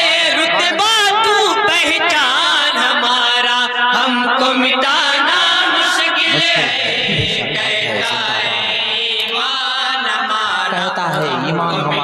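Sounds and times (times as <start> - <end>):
men chanting in chorus: 0.0 - 12.0.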